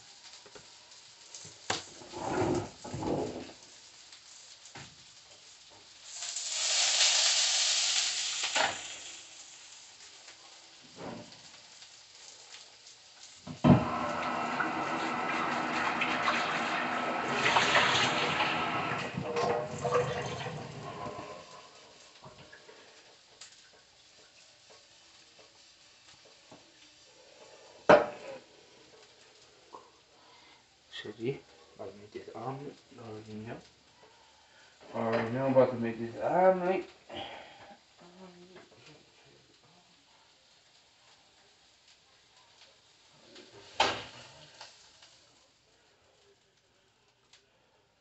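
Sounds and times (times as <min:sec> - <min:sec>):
frying pan sizzling: 0:00.0 - 0:38.0, 0:38.6 - 0:48.0.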